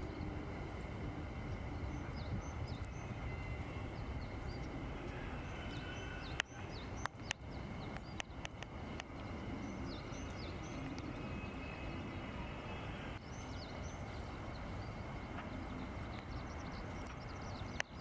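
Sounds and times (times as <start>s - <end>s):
low background rumble: 0.0s - 18.0s
small birds chirping: 1.5s - 18.0s.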